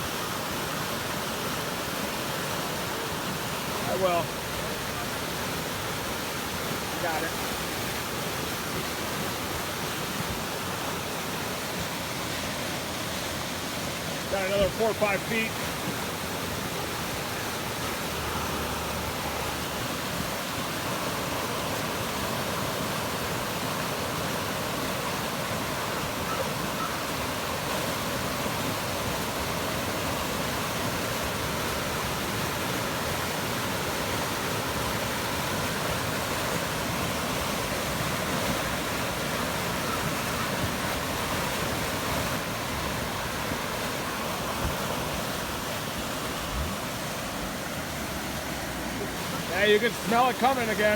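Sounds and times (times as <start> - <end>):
turbulent water rushing: 0.0 - 50.9.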